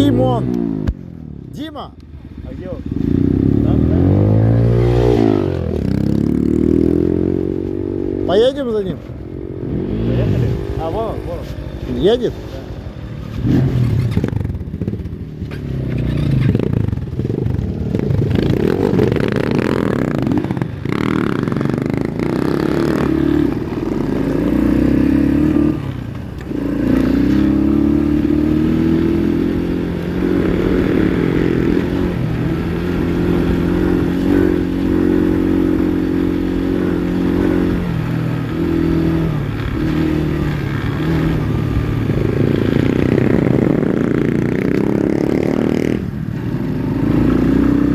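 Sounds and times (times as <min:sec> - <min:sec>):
pit bike engine revving: 0:02.4 - 0:12.2, 0:13.4 - 0:47.9.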